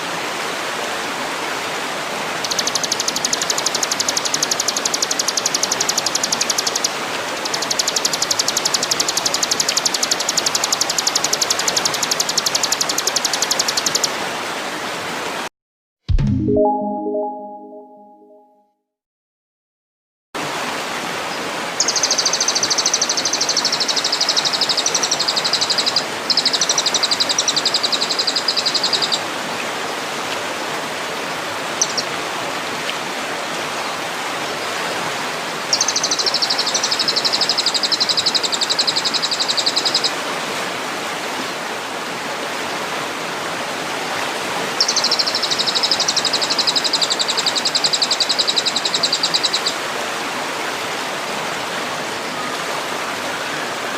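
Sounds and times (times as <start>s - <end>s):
stream water rushing: 0.0s - 15.5s, 20.4s - 53.9s.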